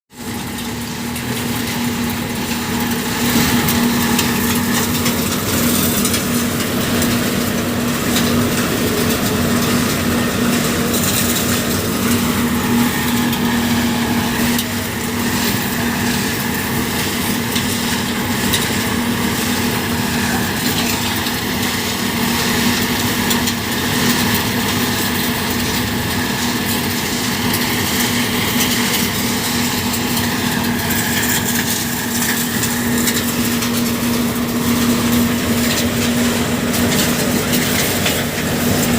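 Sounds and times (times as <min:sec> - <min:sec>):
road-repair machinery running: 0:00.1 - 0:38.9.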